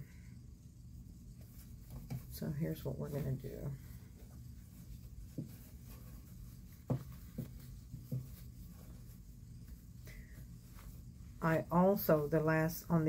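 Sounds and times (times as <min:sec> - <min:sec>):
towel fabric rustle: 0:01.0 - 0:13.0.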